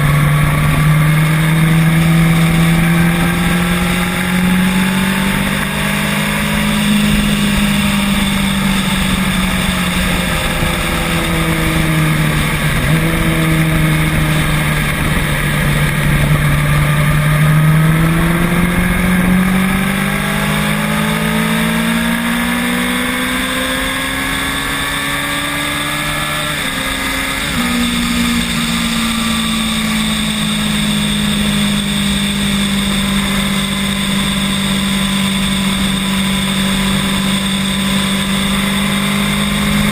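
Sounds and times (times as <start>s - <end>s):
road and wind rumble: 0.0s - 39.9s.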